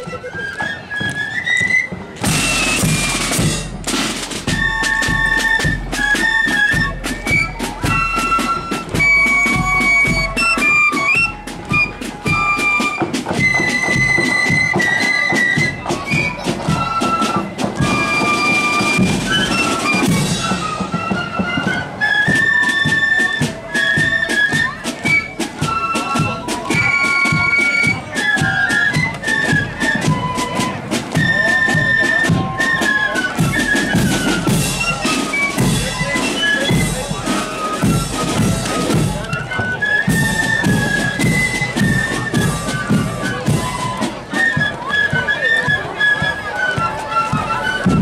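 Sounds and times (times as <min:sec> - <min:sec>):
flutes playing march: 0:00.0 - 0:48.0
marching drums: 0:00.0 - 0:48.0.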